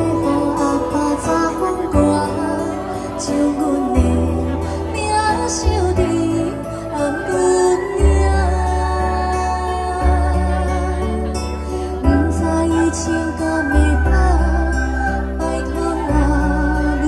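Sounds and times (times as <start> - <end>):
girl singing into a microphone: 0.0 - 11.2, 12.0 - 17.0.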